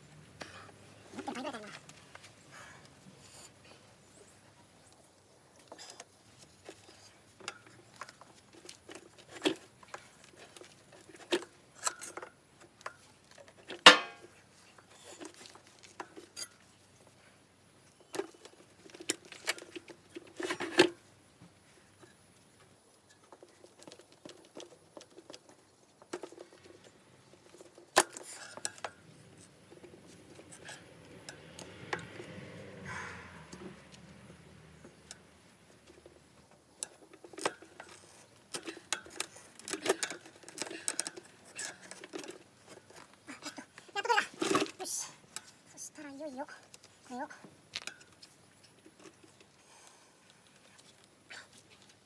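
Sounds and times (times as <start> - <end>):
hand tools and metal parts clinking: 0.1 - 17.2, 21.8 - 52.0.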